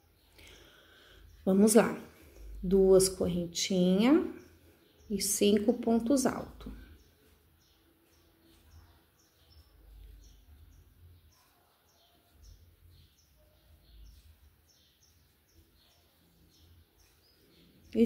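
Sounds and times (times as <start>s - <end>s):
bird chirping faintly: 0.0s - 18.0s.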